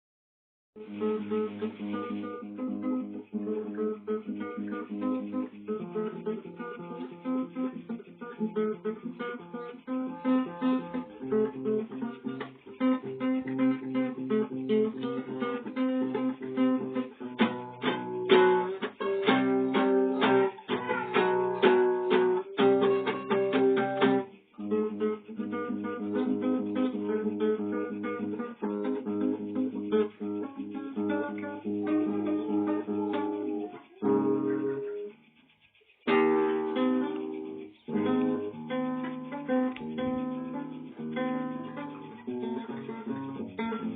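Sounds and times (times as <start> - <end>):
strummed guitar chords: 0.8 - 35.1, 36.1 - 43.9
acoustic guitar picking: 0.8 - 43.9.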